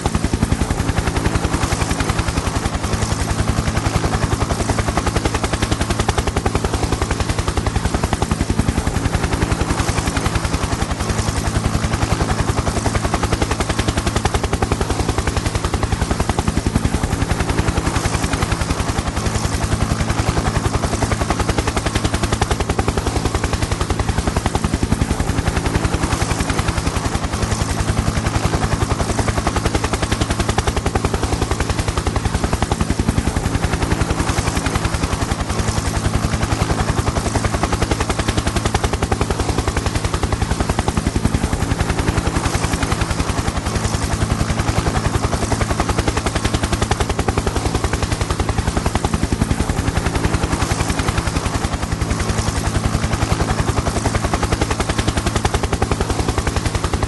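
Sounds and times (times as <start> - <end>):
helicopter rotor blades chopping: 0.0 - 57.0
turbine engine drone: 0.0 - 57.0.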